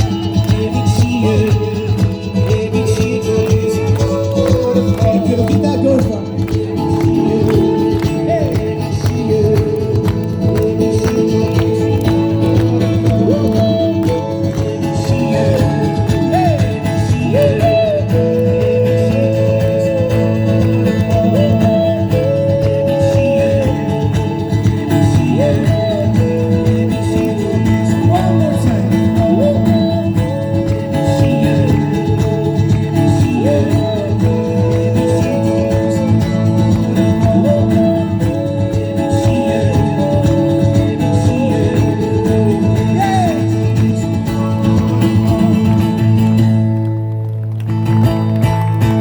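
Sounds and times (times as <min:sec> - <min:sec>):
person singing wordless melody: 0:00.0 - 0:46.4
strummed acoustic guitar: 0:00.0 - 0:49.0.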